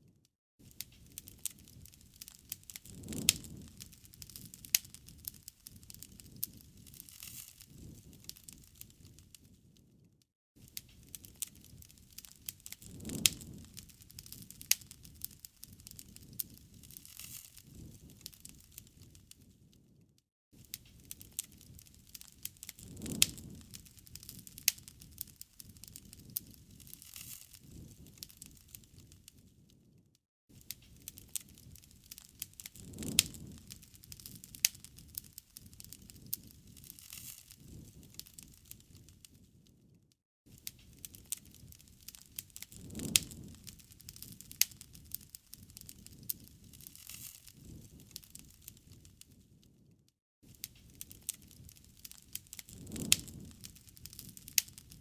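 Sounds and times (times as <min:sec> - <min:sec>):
wood fire crackling: 0:00.6 - 0:49.9, 0:50.5 - 0:55.0
low rumble of flames: 0:00.6 - 0:55.0.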